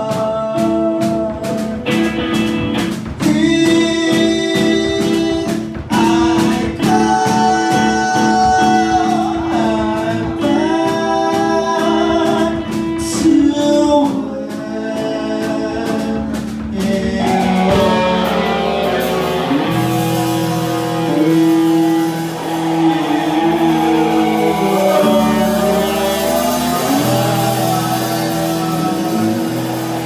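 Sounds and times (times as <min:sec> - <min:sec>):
person singing: 0:00.0 - 0:30.0
rock band playing: 0:00.0 - 0:30.0.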